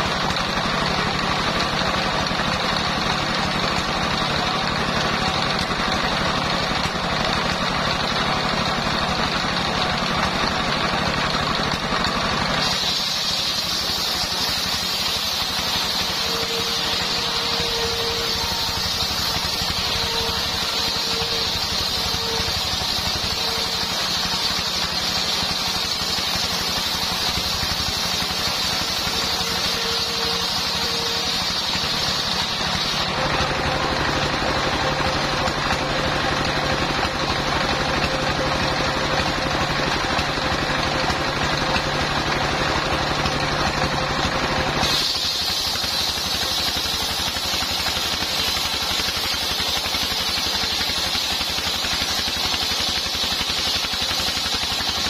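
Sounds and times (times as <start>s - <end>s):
circular saw cutting wood: 0.0s - 55.0s
diesel engine running: 0.0s - 55.0s.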